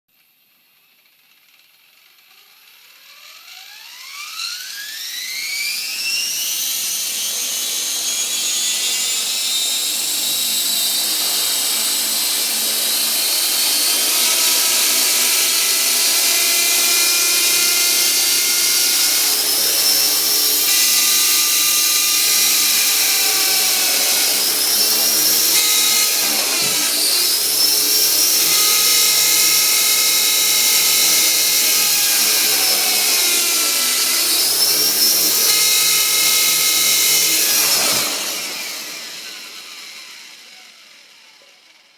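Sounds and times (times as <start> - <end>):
rc helicopter high whine: 1.2 - 41.9.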